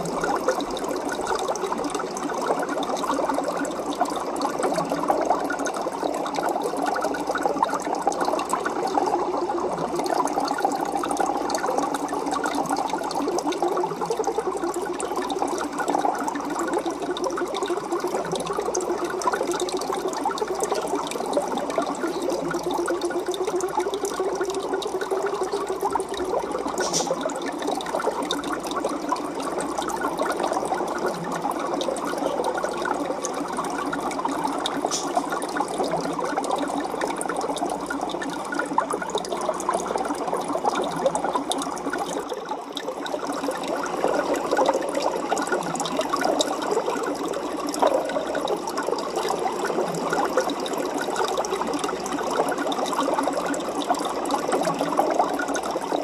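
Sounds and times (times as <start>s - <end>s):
aquarium water bubbling: 0.0s - 56.0s.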